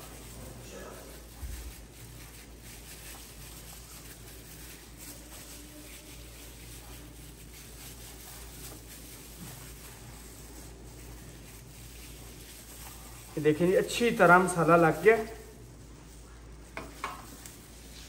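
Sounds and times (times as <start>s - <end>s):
gloved hands squishing paste: 0.0s - 18.0s.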